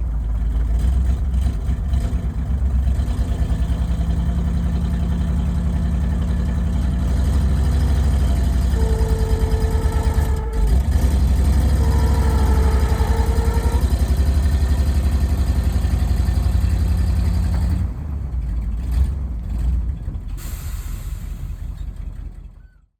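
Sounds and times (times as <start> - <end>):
heavy truck engine running: 0.0 - 22.9.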